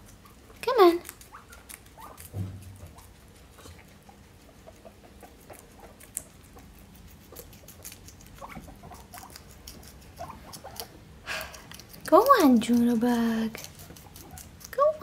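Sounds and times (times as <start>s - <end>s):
guinea pig crunching lettuce: 0.0s - 15.0s.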